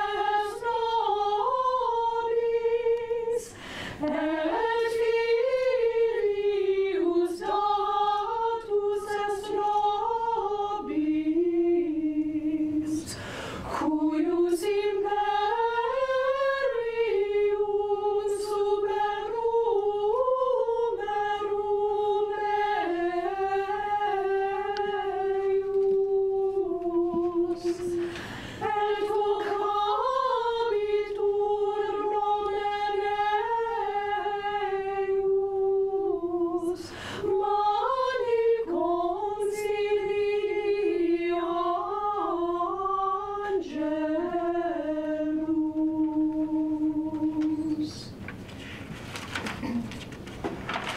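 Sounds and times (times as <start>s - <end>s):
women's choir singing a cappella: 0.0s - 48.2s.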